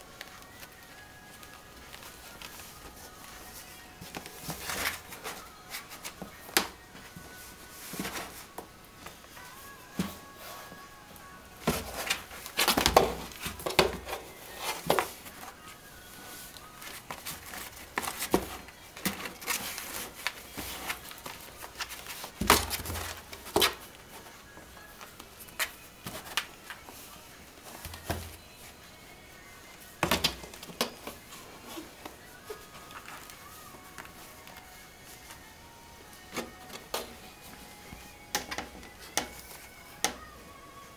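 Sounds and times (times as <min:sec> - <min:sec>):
faint background music: 0:00.0 - 0:40.9.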